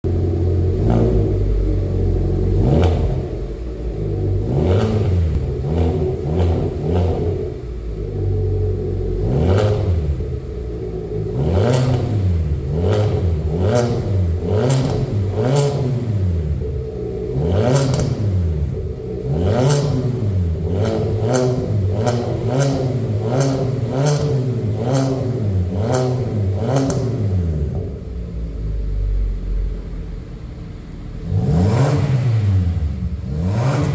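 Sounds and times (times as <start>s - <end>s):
car engine free revving: 0.0s - 33.9s
engine idling: 0.0s - 33.9s
sharp exhaust cracks: 0.1s - 27.9s.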